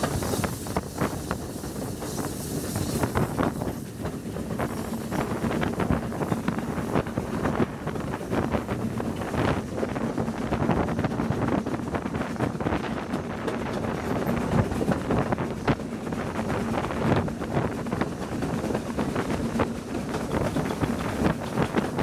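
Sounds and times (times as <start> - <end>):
steam train running: 0.0 - 22.0
wind buffeting microphone: 0.0 - 22.0.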